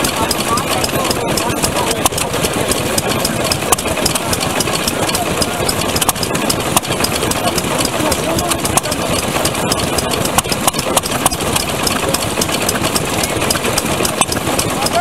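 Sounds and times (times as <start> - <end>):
irregular exhaust pops: 0.0 - 15.0
mechanical clatter: 0.0 - 15.0
old stationary engines running: 0.0 - 15.0.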